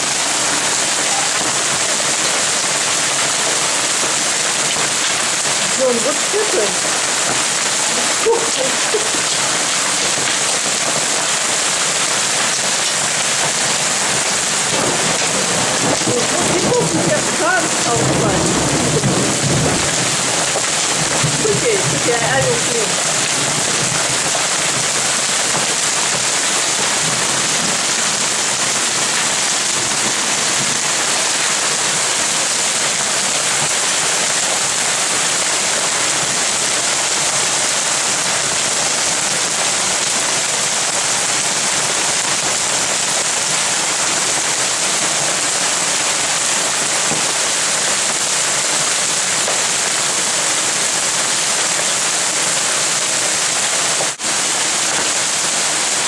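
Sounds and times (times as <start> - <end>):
hail pelting a tub cover: 0.0 - 56.0.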